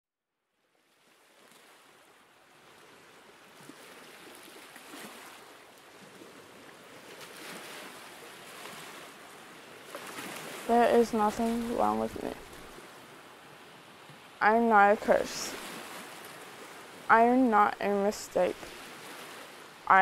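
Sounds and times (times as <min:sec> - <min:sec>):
waves washing onto beach: 0:01.1 - 0:20.0.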